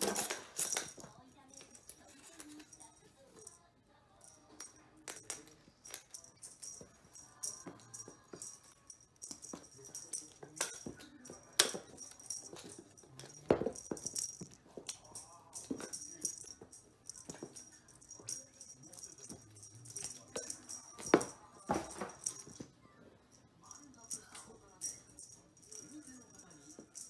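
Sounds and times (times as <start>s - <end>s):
light jingling rattle: 0.0s - 27.0s.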